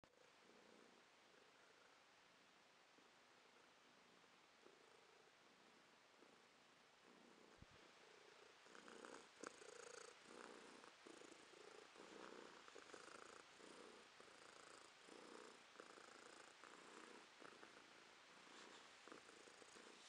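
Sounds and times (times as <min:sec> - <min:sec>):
cat purring: 0:00.0 - 0:02.1, 0:02.8 - 0:20.0.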